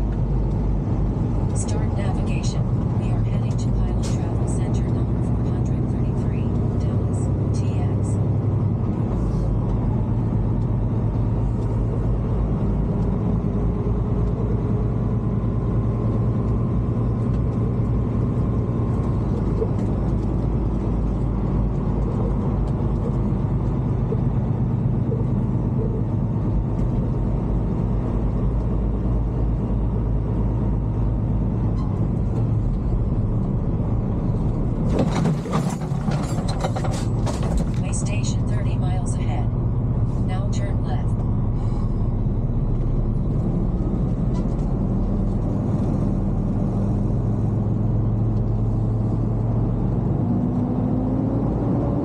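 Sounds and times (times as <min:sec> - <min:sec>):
road rumble: 0:00.0 - 0:52.0
truck engine drone: 0:00.0 - 0:52.0.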